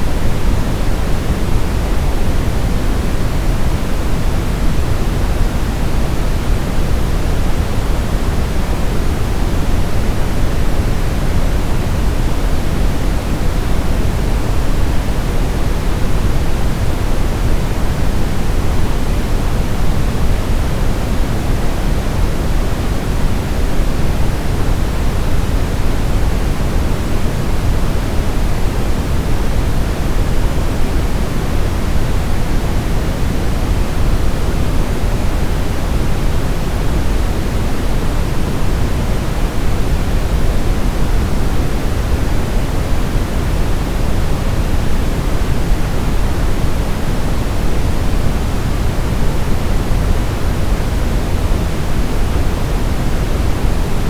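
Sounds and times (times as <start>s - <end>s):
low white noise hiss: 0.0s - 54.0s.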